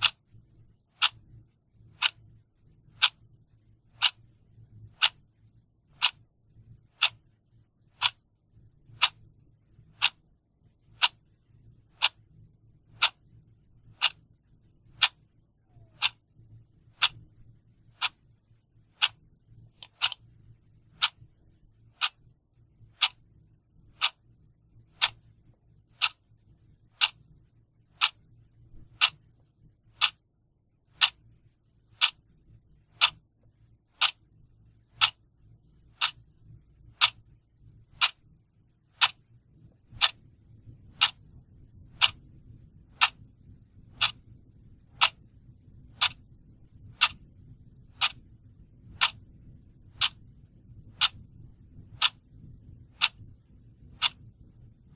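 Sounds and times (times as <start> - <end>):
mechanical clock ticking: 0.0 - 7.3, 7.9 - 16.3, 16.9 - 30.3, 30.9 - 32.3, 32.9 - 54.9
faint low hum: 0.0 - 54.9.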